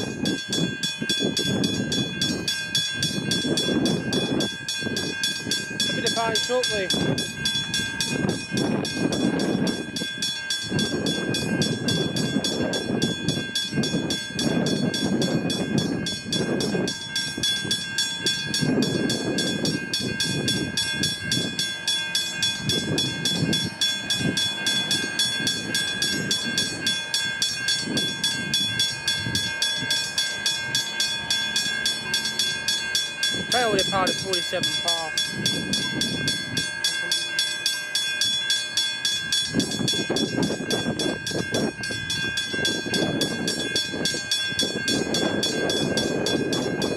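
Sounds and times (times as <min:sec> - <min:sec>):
level crossing bell ringing: 0:00.0 - 0:46.9
train engine rumbling: 0:00.0 - 0:46.9.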